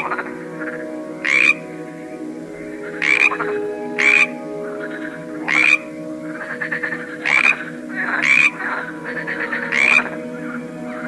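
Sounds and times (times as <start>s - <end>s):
soft rattling frog calls: 0.0s - 1.6s, 2.9s - 10.2s
frogs croaking: 0.0s - 11.0s
steady low drone: 0.0s - 11.0s.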